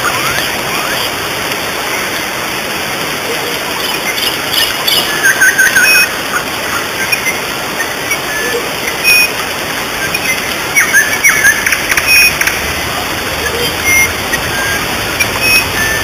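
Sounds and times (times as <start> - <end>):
birds chirping: 0.0 - 16.0
waterfall rushing: 0.0 - 16.0.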